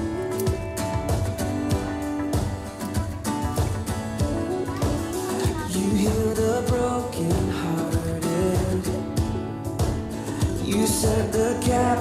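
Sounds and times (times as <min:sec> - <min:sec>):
band playing: 0:00.0 - 0:12.0
sustained guitar notes: 0:00.0 - 0:12.0.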